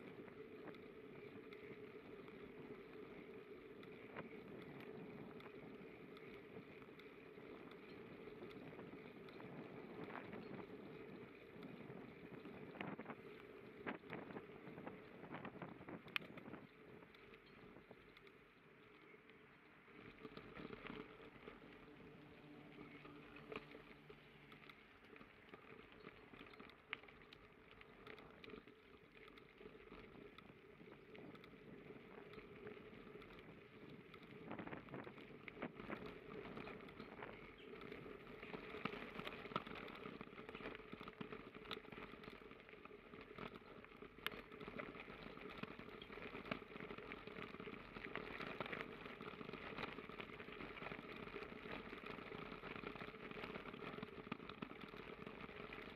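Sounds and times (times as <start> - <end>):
bicycle tyres on gravel: 0.0 - 55.9.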